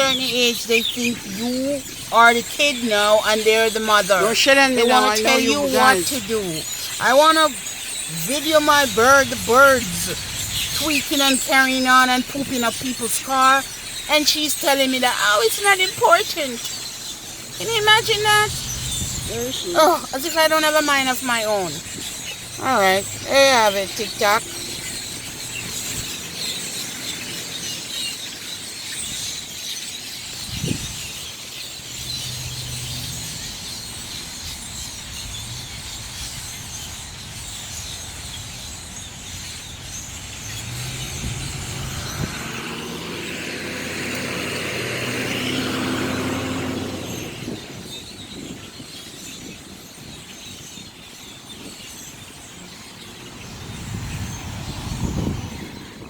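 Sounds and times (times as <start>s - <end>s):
road vehicles passing: 0.0s - 56.0s.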